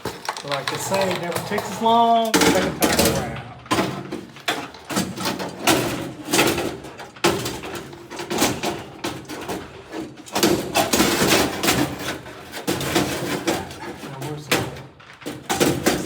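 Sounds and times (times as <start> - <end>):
metal parts and tools clanking: 0.0 - 16.0.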